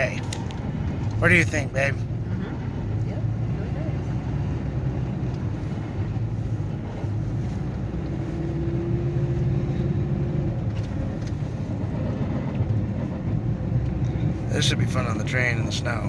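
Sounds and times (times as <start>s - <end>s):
car cabin road and engine rumble: 0.0s - 16.0s.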